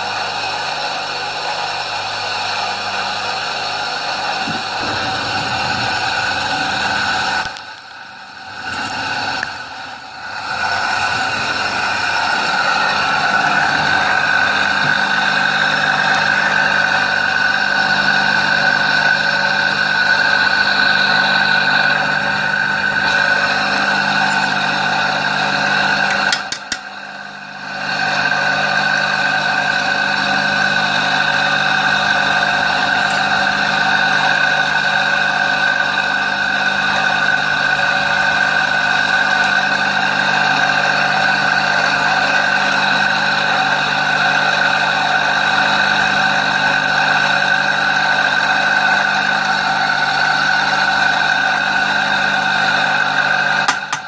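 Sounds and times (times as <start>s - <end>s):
grinder motor whining: 2.4s - 54.0s.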